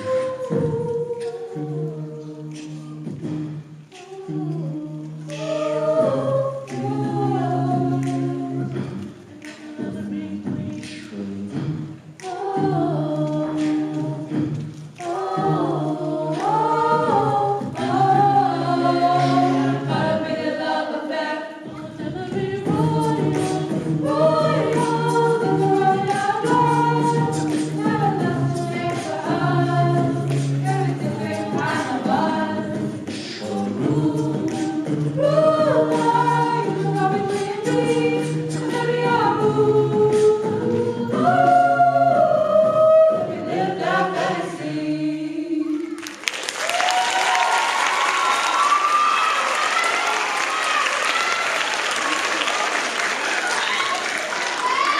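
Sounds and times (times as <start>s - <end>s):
vocal group singing in harmony: 0.0s - 49.8s.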